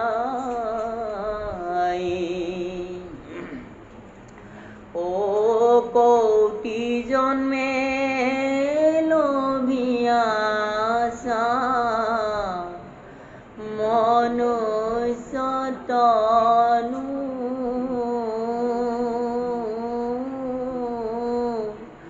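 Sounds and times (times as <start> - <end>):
person chanting melodically: 0.0 - 3.7, 4.9 - 13.0, 13.6 - 22.0.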